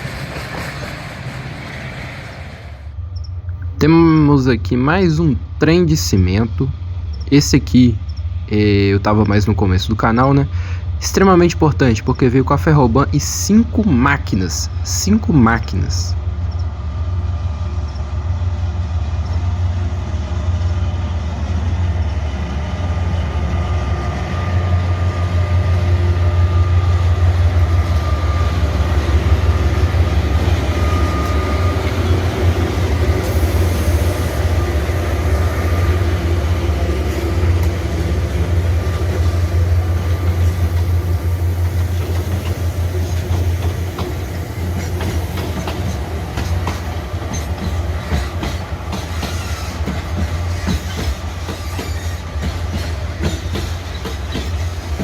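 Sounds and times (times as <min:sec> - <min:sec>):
diesel locomotive engine drone: 0:00.0 - 0:55.0
train wheels rumbling on rails: 0:00.0 - 0:55.0.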